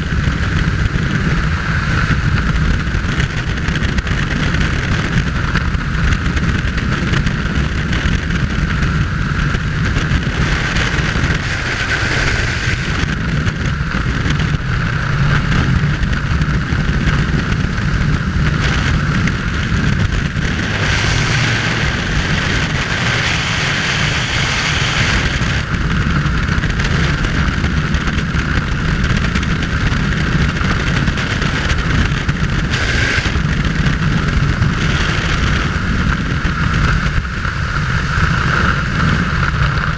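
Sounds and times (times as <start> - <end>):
freefall wind buffeting microphone: 0.0 - 39.9.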